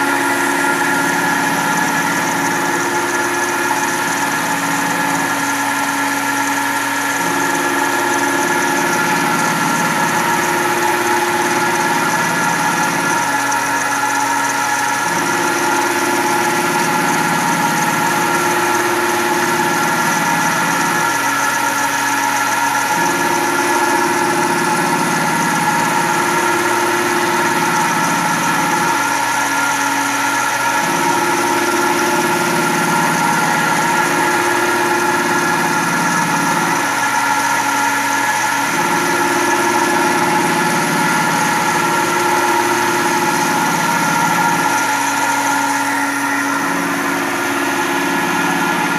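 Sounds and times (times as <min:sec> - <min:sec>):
end mill cutting steel: 0:00.0 - 0:48.9
mill spindle whine: 0:00.0 - 0:48.9.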